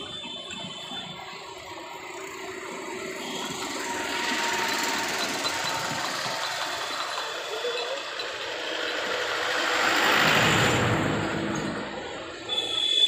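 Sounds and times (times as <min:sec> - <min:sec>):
street traffic noise: 0:00.0 - 0:13.0
vehicle engine rattling: 0:00.6 - 0:12.3.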